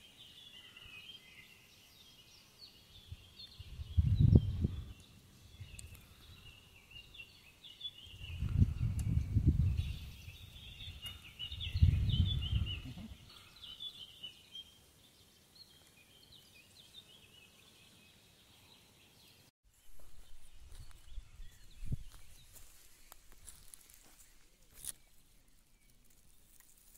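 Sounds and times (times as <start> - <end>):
faint outdoor ambience: 0.0 - 26.9
small birds chirping: 0.0 - 26.9.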